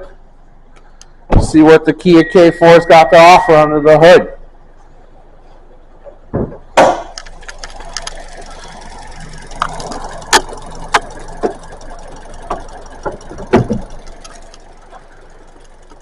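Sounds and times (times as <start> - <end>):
car engine idling: 0.0 - 2.5, 4.4 - 16.0.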